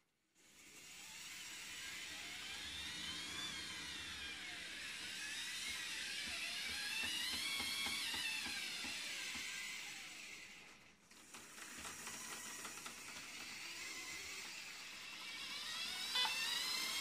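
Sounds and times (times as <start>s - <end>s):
electric motors whining: 0.6s - 17.0s.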